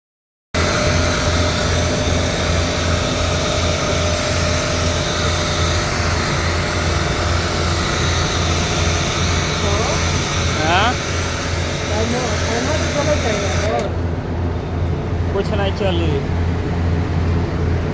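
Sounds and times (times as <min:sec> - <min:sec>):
air conditioner fan running: 0:00.6 - 0:17.9.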